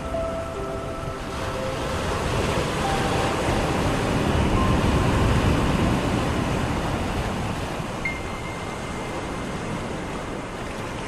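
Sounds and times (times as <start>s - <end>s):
waves washing up a beach: 0.0s - 11.0s.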